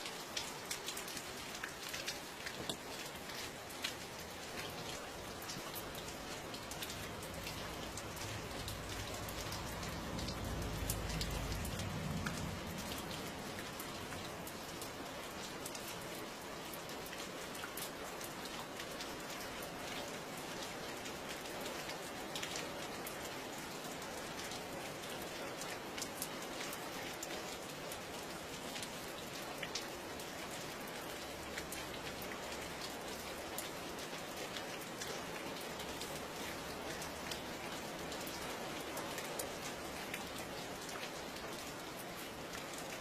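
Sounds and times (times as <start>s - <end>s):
raindrops pattering: 0.0s - 43.0s
steady rain: 0.0s - 43.0s.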